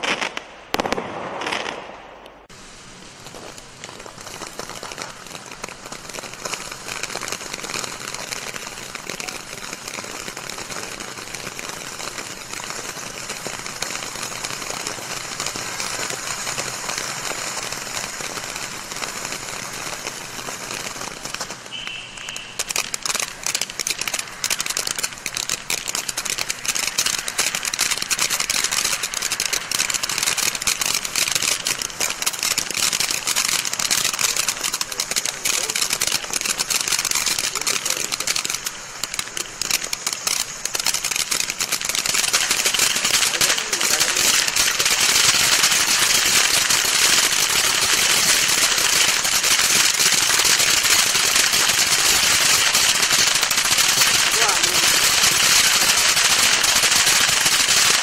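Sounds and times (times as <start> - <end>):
firework fountain hissing and crackling: 0.0 - 58.0.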